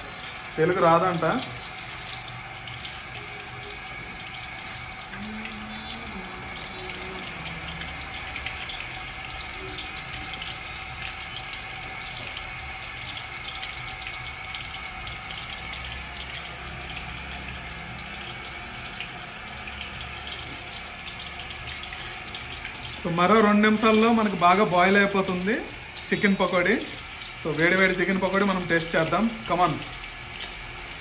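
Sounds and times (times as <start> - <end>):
food deep-frying in sizzling oil: 0.0 - 31.0.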